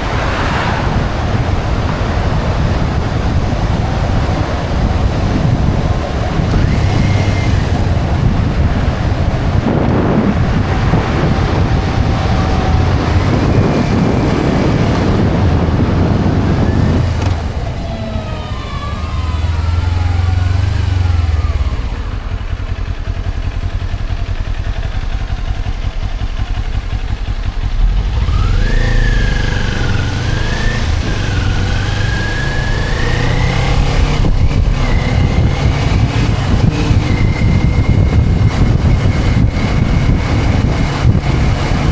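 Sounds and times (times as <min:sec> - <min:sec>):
wind noise on microphone: 0:00.0 - 0:22.1, 0:23.1 - 0:41.9
motorcycle engine running: 0:00.0 - 0:41.9.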